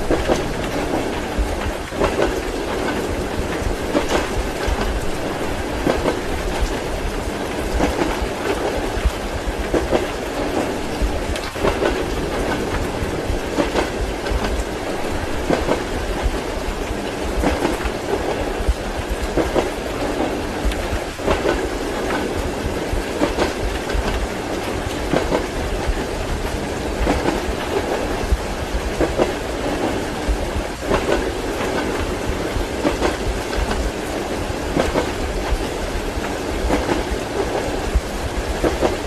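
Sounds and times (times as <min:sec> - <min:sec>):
clickety-clack over rail joints: 0:00.0 - 0:39.0
rain: 0:00.0 - 0:39.0
train wheels rumbling: 0:00.0 - 0:39.0.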